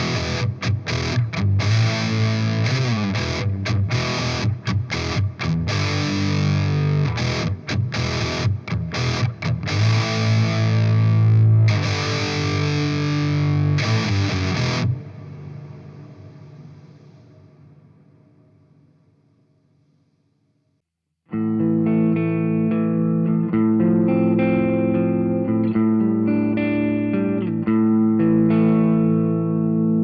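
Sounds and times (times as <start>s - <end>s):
distorted electric guitar chords: 0.0s - 18.3s, 21.3s - 30.0s.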